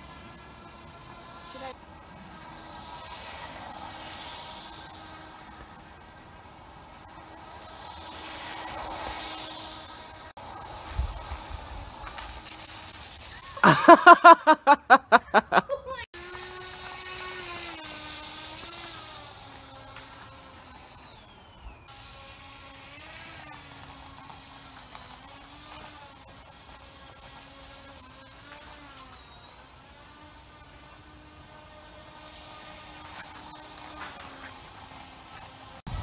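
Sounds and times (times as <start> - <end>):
electric motor whine: 0.0 - 14.0, 16.2 - 36.0.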